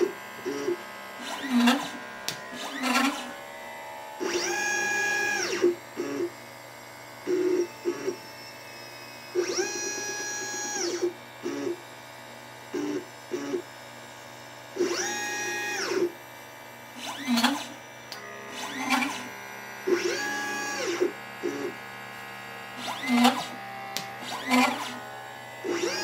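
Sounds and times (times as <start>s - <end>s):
stepper motors whining: 0.0s - 6.4s, 7.3s - 11.7s, 14.8s - 16.1s, 17.0s - 26.0s.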